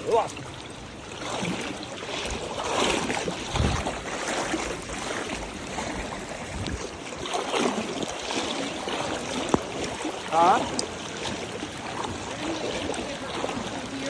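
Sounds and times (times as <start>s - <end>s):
floodwater sloshing and splashing: 0.0s - 14.0s
wash of moving water: 0.0s - 14.0s.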